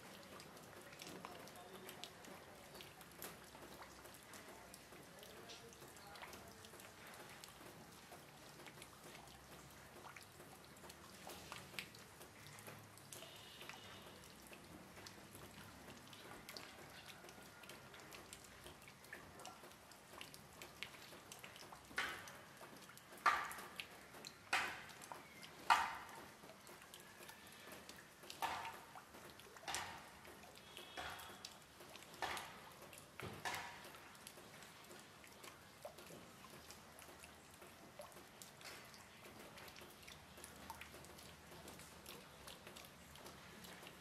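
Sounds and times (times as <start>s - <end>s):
water drops dripping: 0.0s - 44.0s.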